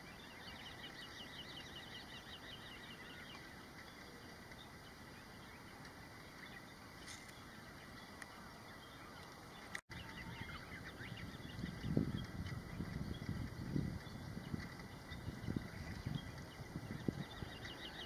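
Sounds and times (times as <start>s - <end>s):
distant birds chirping: 0.0s - 18.0s.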